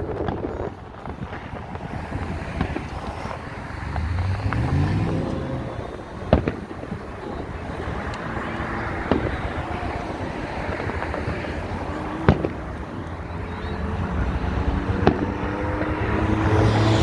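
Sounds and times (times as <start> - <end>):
fireworks bangs: 0.0 - 17.0
outdoor rumble: 0.0 - 17.0
car engine rising in pitch: 1.9 - 17.0.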